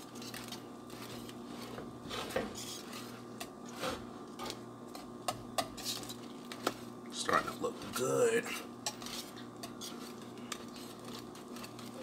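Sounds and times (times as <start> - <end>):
whisk scraping a saucepan: 0.0 - 12.0.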